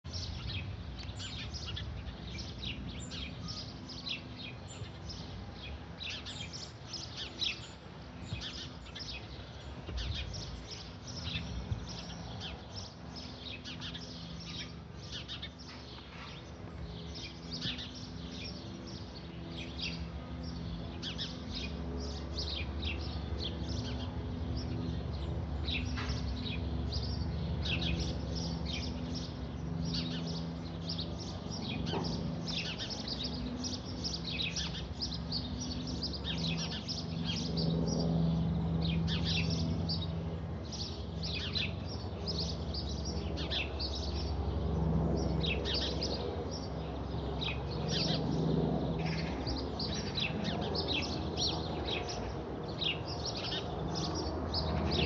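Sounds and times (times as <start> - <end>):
helicopter hum: 0.0 - 55.0
songbirds chirping: 0.0 - 55.0.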